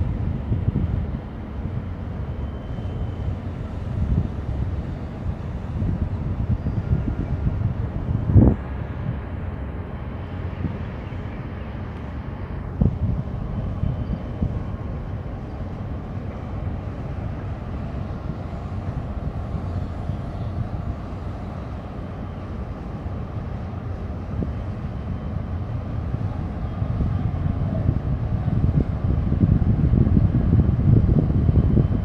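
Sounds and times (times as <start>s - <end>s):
ship engine rumble: 0.0s - 32.0s
wind on microphone: 0.0s - 32.0s.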